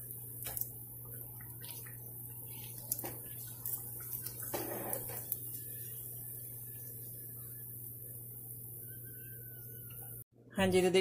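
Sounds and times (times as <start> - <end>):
oil sizzling: 0.0 - 10.3
steady low hum: 0.0 - 10.5.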